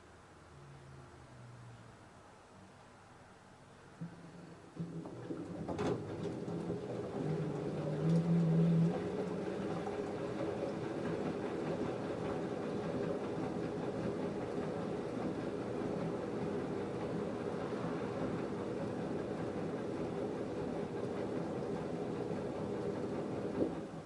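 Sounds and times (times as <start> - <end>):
washing machine motor hum: 4.0 - 24.0
wet laundry tumbling in drum: 4.0 - 24.0.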